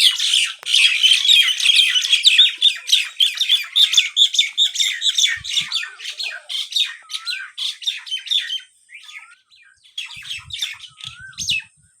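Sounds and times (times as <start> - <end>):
small birds chirping and squawking: 0.0 - 12.0.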